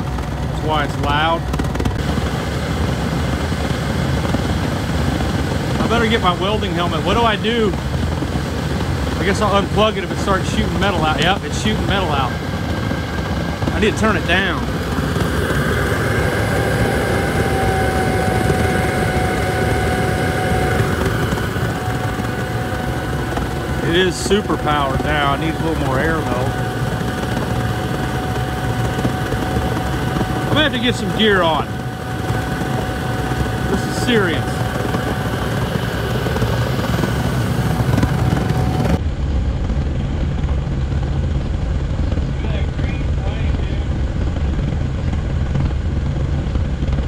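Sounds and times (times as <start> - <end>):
furnace burner roaring: 0.0 - 47.0
thin steady whine: 0.0 - 47.0.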